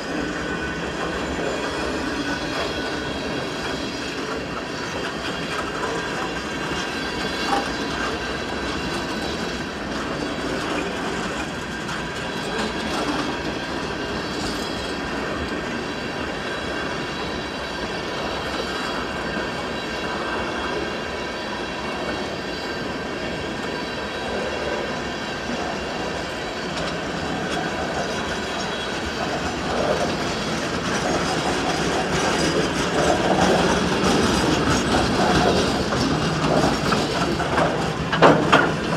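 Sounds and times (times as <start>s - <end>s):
freight train wheels rolling: 0.0s - 38.9s.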